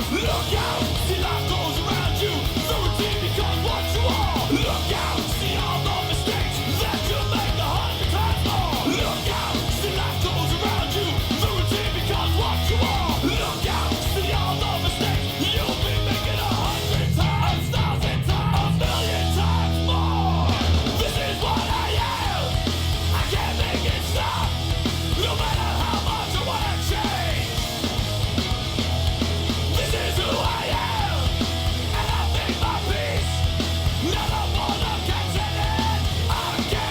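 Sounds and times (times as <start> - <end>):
heavy rock music: 0.0 - 36.9
yelled vocals: 0.0 - 36.9.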